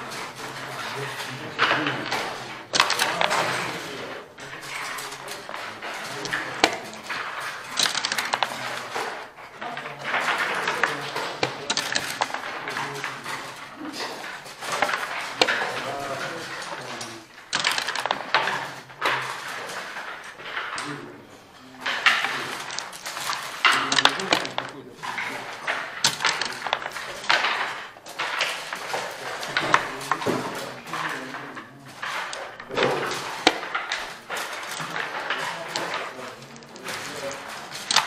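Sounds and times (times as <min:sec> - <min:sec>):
game pieces and dice clicking: 0:00.0 - 0:38.0.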